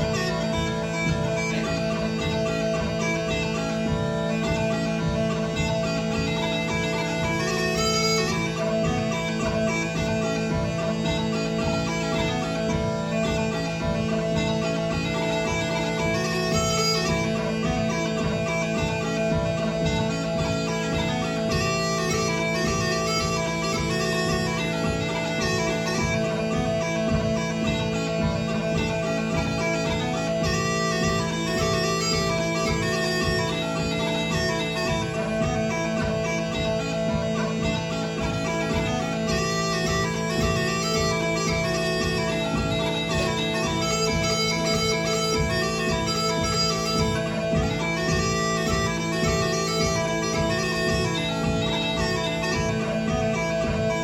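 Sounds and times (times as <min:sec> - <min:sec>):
bagpipe drones: 0:00.0 - 0:54.0
smallpipes melody: 0:00.0 - 0:54.0.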